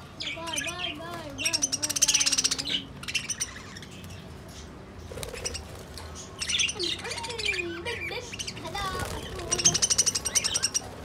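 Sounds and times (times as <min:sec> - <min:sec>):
budgerigars chirping and chattering: 0:00.0 - 0:11.0.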